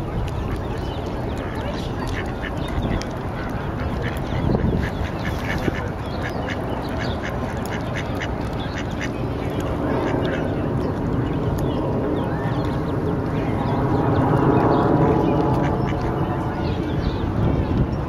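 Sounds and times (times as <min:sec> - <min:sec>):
ducks and ducklings calling: 0:00.0 - 0:18.0.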